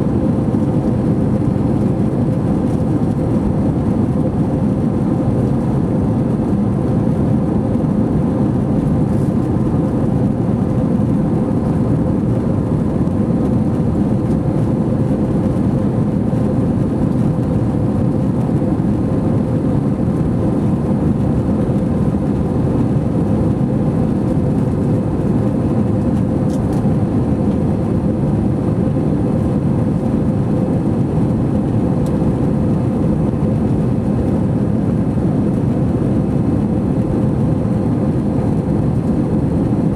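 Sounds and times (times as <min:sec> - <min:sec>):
aircraft cabin engine and airflow noise: 0:00.0 - 0:39.9
faint constant hum: 0:00.0 - 0:39.9.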